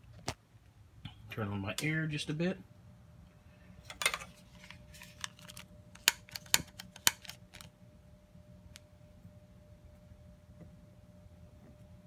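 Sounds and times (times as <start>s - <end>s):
forge air blower humming: 0.8s - 12.0s.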